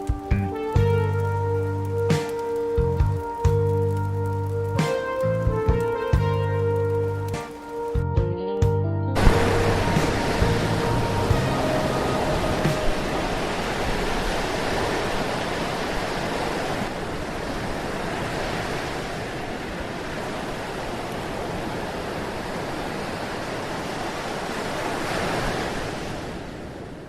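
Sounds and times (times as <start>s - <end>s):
ocean waves washing in: 0.0s - 8.0s, 9.2s - 27.0s.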